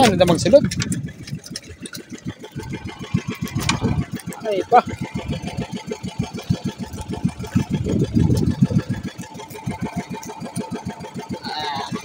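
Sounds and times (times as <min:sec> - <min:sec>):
boat engine puttering: 0:00.0 - 0:12.0.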